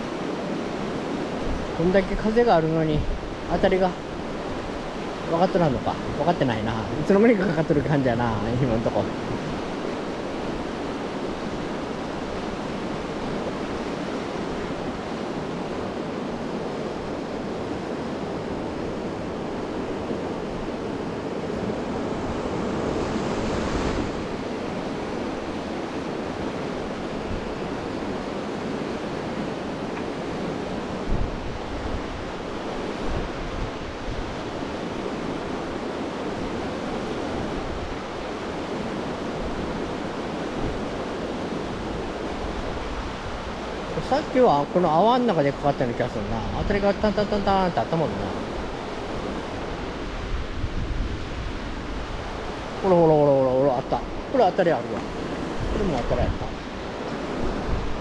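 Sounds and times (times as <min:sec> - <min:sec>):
river water rushing: 0:00.0 - 0:58.0
wind buffeting microphone: 0:00.0 - 0:58.0.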